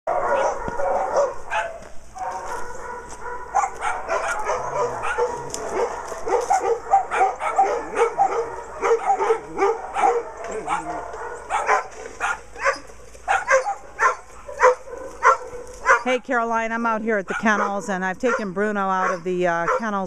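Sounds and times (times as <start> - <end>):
dogs barking and yipping: 0.1 - 16.2, 17.2 - 20.0.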